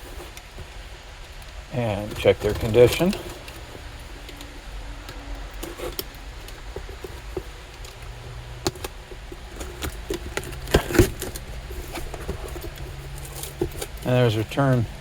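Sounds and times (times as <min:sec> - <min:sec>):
packaging being handled: 0:00.0 - 0:15.0.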